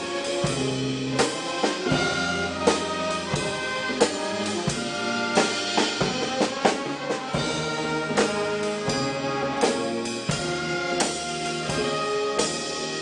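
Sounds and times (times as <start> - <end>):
brass band playing: 0.0 - 13.0
trombones holding notes: 0.0 - 13.0.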